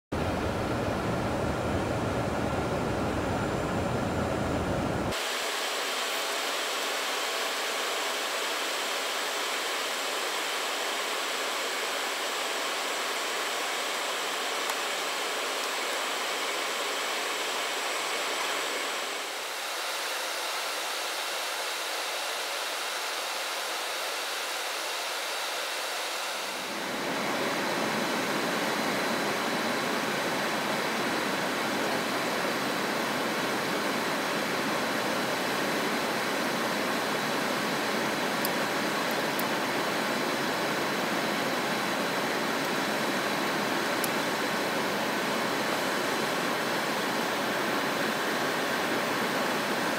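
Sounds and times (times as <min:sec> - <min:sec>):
cockpit airflow and engine noise: 0:00.1 - 0:49.9.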